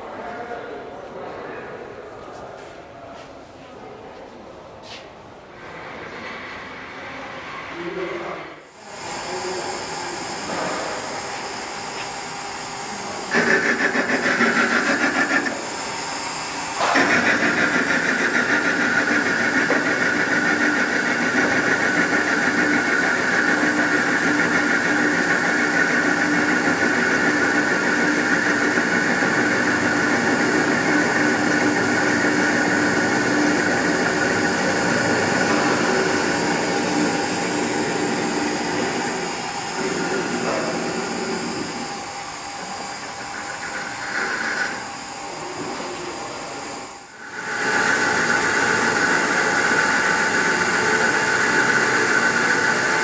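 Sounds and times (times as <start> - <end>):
metal lathe cutting metal: 8.8 - 53.0.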